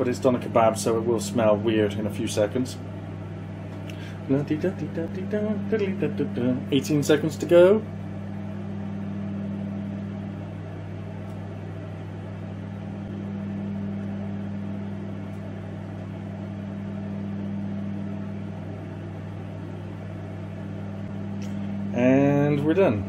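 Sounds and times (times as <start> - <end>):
microwave oven humming with fan: 0.0 - 23.0.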